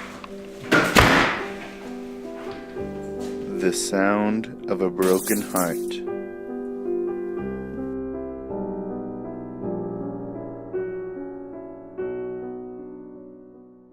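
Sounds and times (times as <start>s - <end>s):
slow soft piano music: 0.0s - 13.9s.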